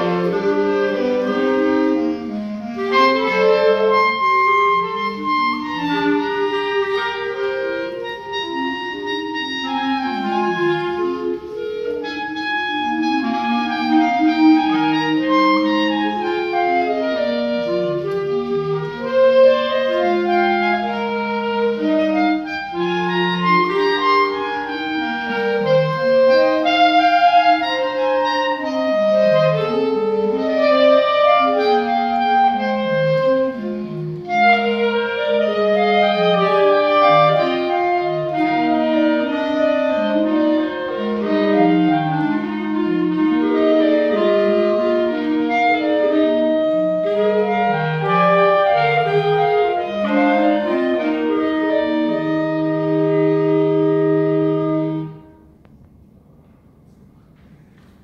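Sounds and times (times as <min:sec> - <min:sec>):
clarinet choir playing: 0:00.0 - 0:58.0.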